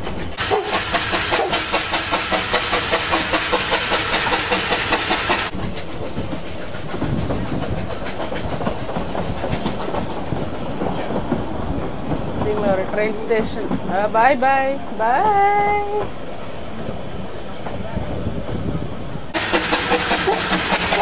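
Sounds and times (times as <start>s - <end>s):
carriage rumbling over track: 0.0s - 21.0s
steam locomotive chuffing: 0.0s - 21.0s.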